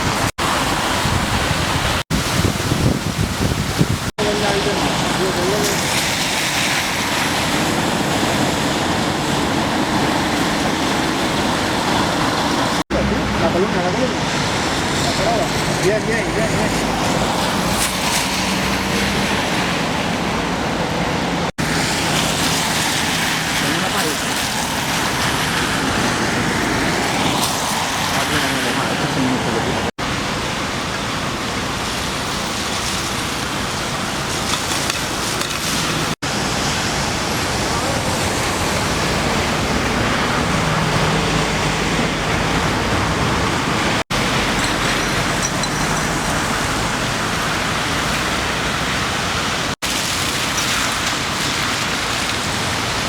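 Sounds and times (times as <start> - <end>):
heavy rain: 0.0 - 53.0
running floodwater: 0.0 - 53.0.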